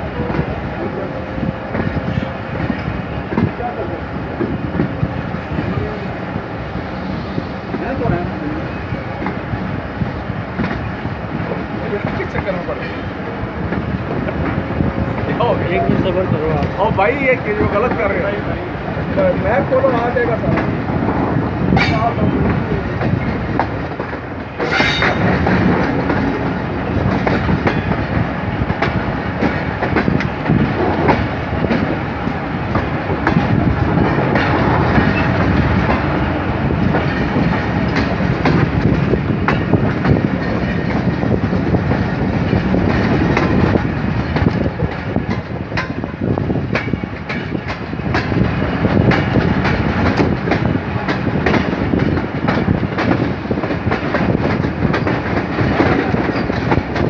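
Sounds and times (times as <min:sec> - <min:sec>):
train coaches rumbling: 0:00.0 - 0:57.0.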